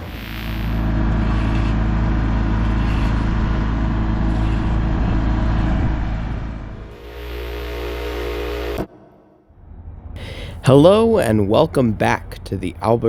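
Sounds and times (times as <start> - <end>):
heavy engine droning: 0.0 - 13.0
higher hum: 0.0 - 13.0.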